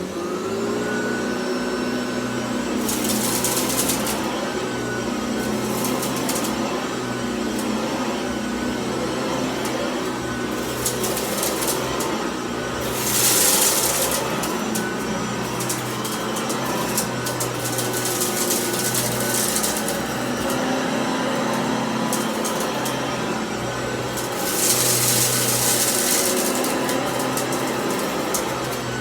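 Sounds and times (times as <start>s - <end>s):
vacuum motor hum: 0.0s - 29.0s.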